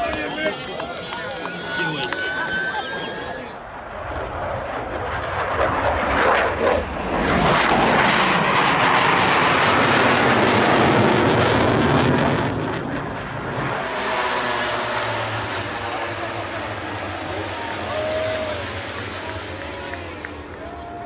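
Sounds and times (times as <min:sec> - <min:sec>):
jet engine roar overhead: 0:00.0 - 0:21.0.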